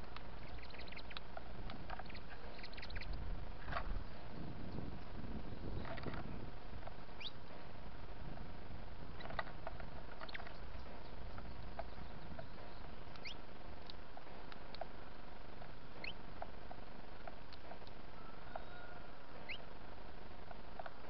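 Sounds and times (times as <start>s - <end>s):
low background rumble: 0.0s - 21.0s
songbirds chirping and squeaking: 0.0s - 21.0s.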